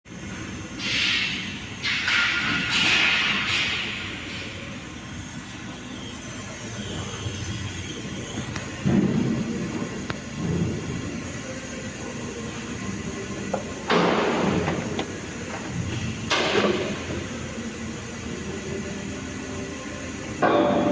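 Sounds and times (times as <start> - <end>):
welding arc hissing: 0.1 - 20.9.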